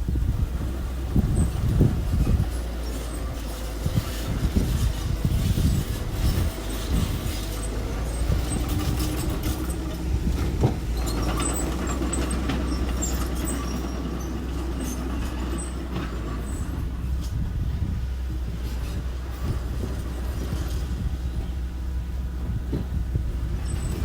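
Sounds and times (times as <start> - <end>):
construction machine engine running: 0.0 - 24.0.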